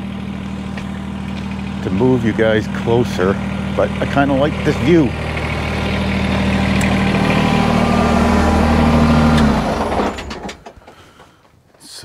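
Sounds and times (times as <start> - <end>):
tractor diesel engine idling: 0.0 - 11.3.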